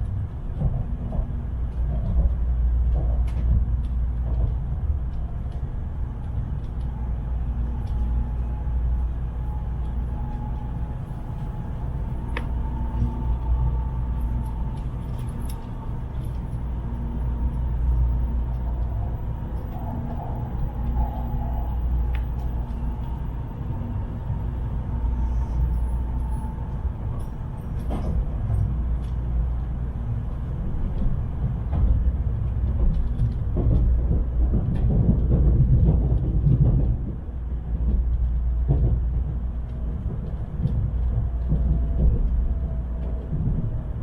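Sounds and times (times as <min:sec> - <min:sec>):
train rumble inside carriage: 0:00.0 - 0:44.0.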